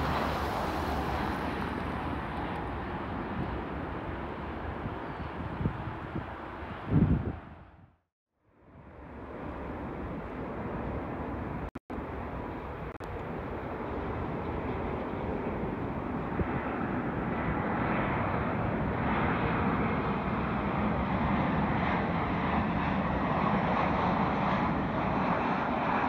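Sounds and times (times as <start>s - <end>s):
jet engines roaring: 0.0s - 7.6s, 8.9s - 26.0s.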